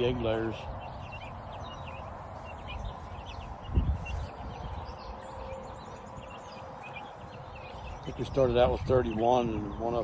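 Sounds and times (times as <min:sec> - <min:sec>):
chickens chirping: 0:00.0 - 0:10.0.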